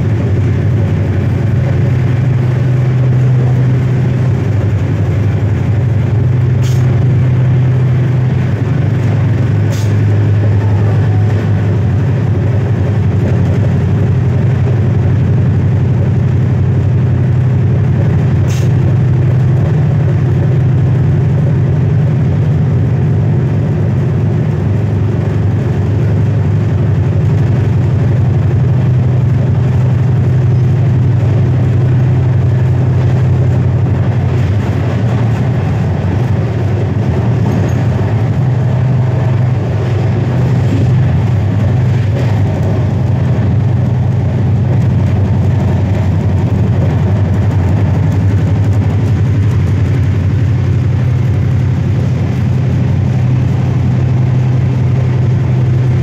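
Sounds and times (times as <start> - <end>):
train rumble inside coach: 0.0 - 56.0
wheels on rails: 0.0 - 56.0.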